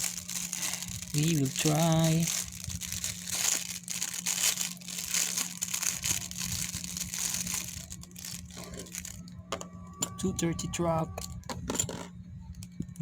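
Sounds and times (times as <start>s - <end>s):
plastic packaging crinkling: 0.0s - 10.4s
steady low hum: 0.0s - 13.0s.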